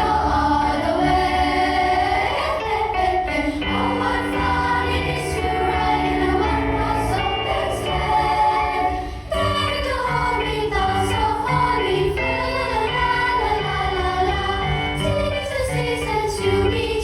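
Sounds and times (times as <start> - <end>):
choir singing in harmony: 0.0 - 17.0.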